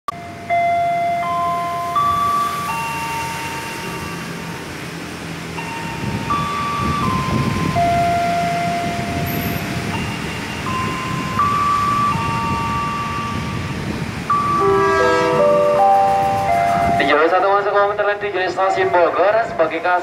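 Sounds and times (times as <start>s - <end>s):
electronic chime melody: 0.1s - 4.8s, 5.6s - 17.6s
public address announcement: 0.2s - 20.0s.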